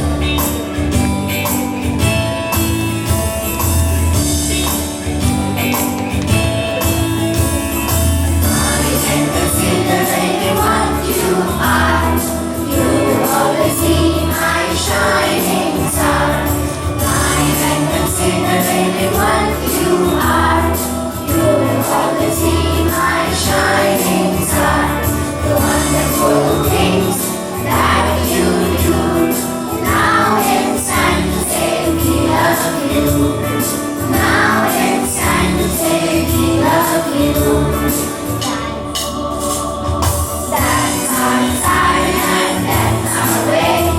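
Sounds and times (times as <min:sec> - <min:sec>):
instrumental accompaniment: 0:00.0 - 0:43.9
group of voices singing: 0:08.2 - 0:43.9.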